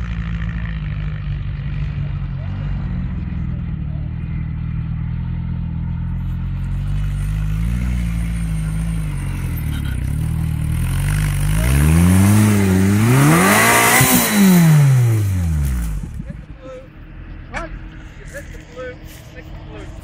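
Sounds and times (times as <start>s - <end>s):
car engine revving under load: 1.4s - 20.0s.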